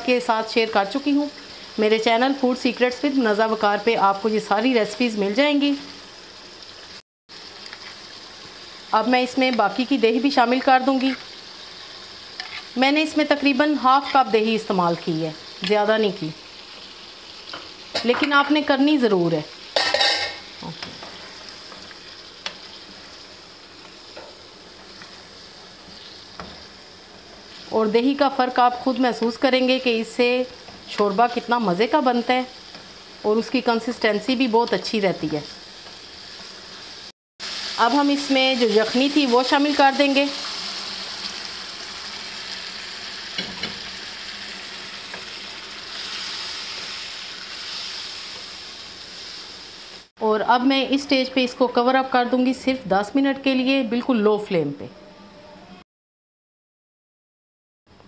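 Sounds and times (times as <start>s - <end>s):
meat sizzling in a wok: 0.0s - 52.5s.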